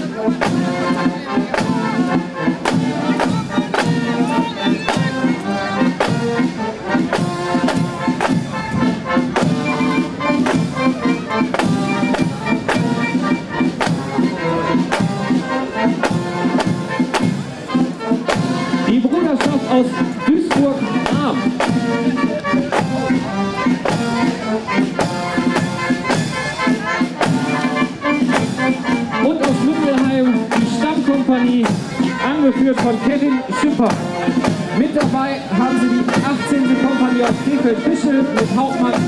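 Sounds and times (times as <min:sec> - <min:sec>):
brass marching band playing: 0:00.0 - 0:39.0
steady drumbeat: 0:00.0 - 0:39.0.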